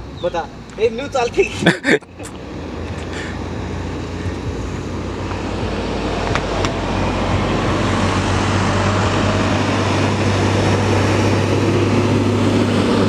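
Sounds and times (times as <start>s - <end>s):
vehicle engine humming: 0.0s - 13.0s
rushing noise: 1.7s - 13.0s.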